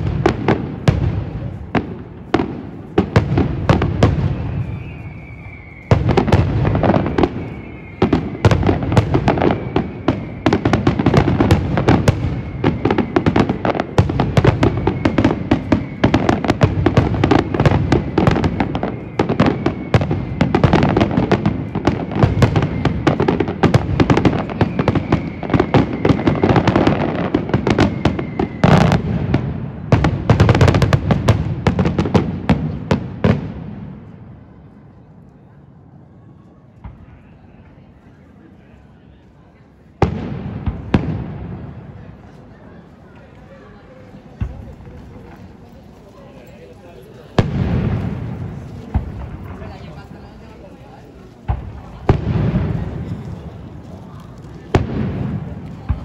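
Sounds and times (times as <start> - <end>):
fireworks bursts and crackling: 0.0 - 35.4, 36.8 - 56.0.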